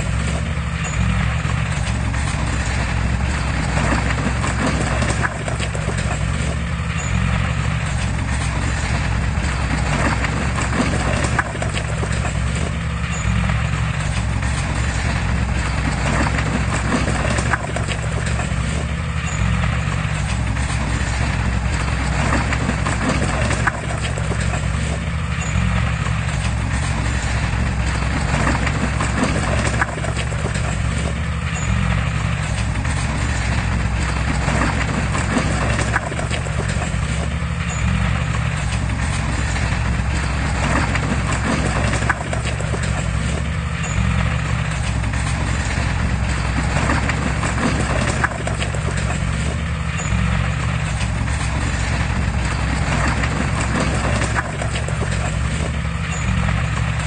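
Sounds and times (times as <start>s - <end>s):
diesel engine rumble: 0.0s - 57.0s
machinery rattling clatter: 0.0s - 57.0s.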